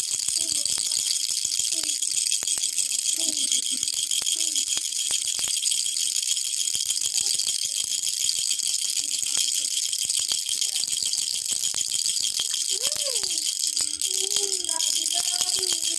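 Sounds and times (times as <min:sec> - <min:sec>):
toy rattle shaking: 0:00.0 - 0:15.9.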